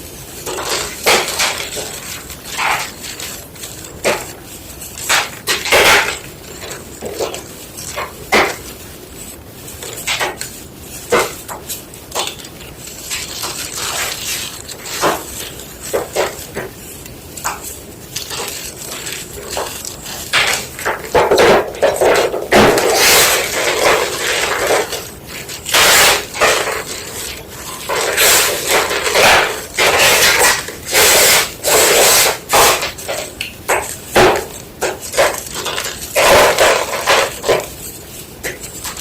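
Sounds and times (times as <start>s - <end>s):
chalk being crushed: 0.1s - 39.0s.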